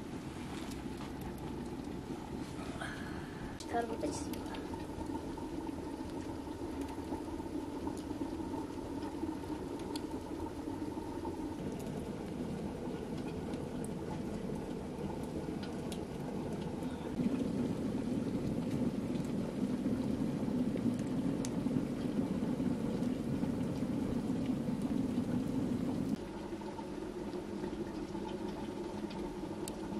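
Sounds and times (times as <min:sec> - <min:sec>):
faint fire crackles: 0:00.0 - 0:29.9
pot bubbling over fire: 0:00.0 - 0:29.9.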